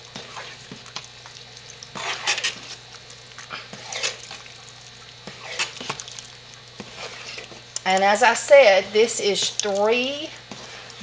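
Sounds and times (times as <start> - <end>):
spoon stirring thick paste: 0.0 - 11.0.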